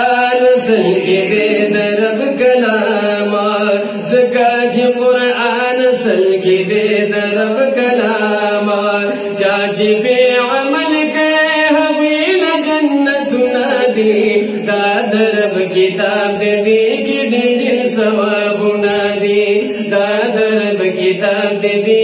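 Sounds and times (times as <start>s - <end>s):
men singing unaccompanied: 0.0s - 22.0s.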